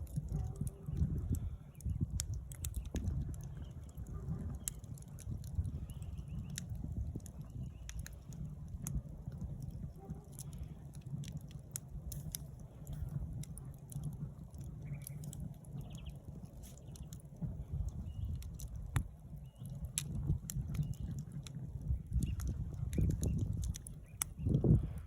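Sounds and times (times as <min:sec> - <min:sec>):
campfire crackling and popping: 0:00.0 - 0:25.0
low steady rumble: 0:00.0 - 0:25.0.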